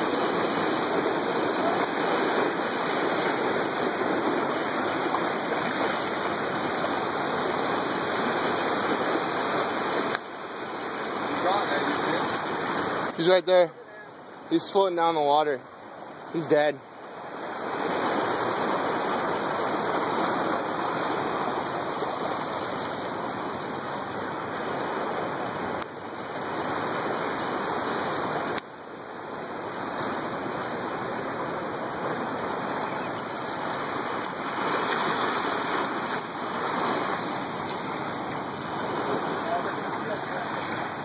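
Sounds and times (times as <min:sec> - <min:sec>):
surf washing onto beach: 0:00.0 - 0:41.0.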